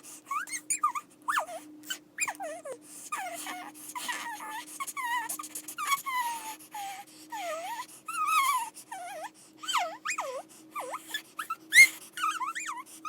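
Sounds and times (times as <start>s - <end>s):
animal whining: 0.2s - 13.0s.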